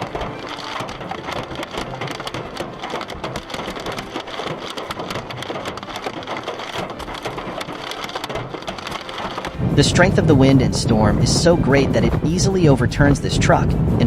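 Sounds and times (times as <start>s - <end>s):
rain pelting a hard surface: 0.0s - 12.5s.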